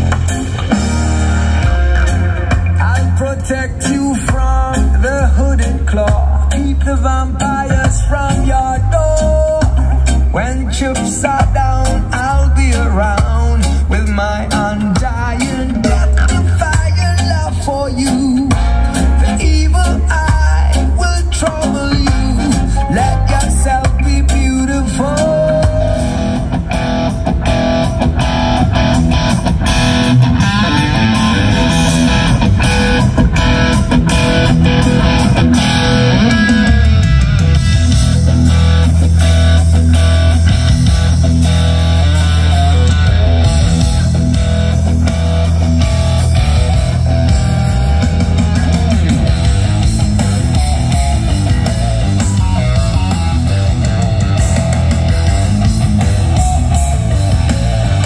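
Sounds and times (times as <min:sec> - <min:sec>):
heavy bass notes: 0:00.0 - 0:58.0
instrumental rock music: 0:00.0 - 0:58.0.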